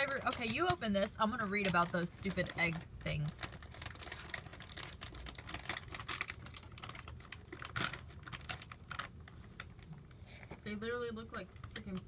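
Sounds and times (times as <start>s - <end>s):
plastic bag crackling: 0.0s - 12.0s.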